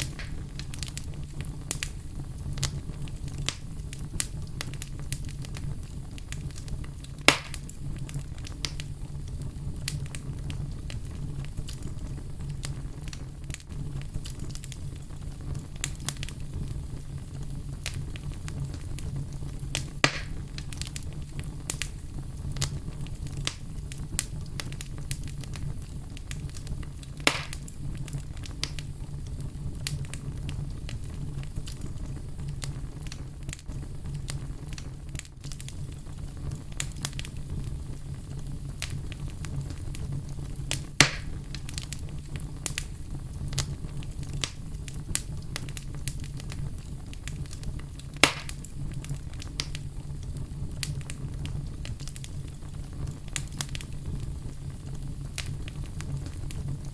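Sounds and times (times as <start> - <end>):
loud fire pops: 0.0 - 56.9
wood fire crackling: 0.0 - 56.9.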